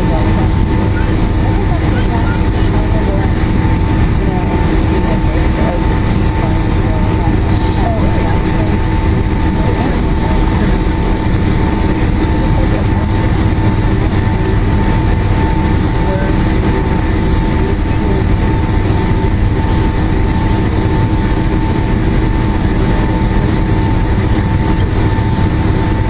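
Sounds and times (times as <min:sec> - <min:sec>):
jet engines rumbling: 0:00.0 - 0:26.0
thin steady whine: 0:00.0 - 0:26.0.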